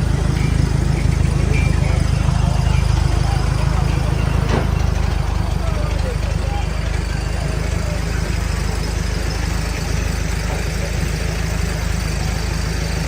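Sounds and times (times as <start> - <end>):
fire truck engine idling: 0.0 - 13.0.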